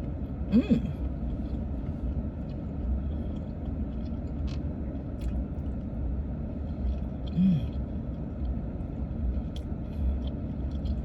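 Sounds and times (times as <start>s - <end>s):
faint clicks of eating: 0.8s - 11.0s.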